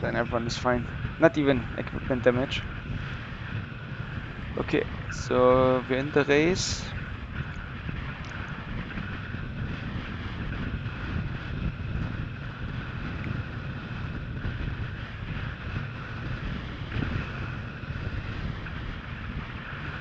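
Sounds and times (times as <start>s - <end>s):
faint high hum: 0.0s - 20.0s
wind buffeting microphone: 0.0s - 20.0s.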